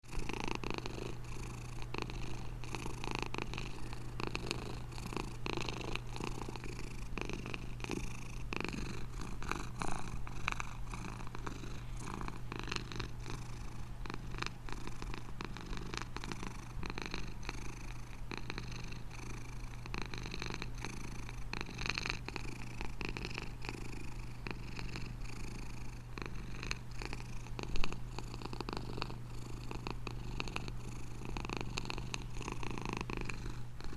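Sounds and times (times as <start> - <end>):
cat purring: 0.1 - 33.9.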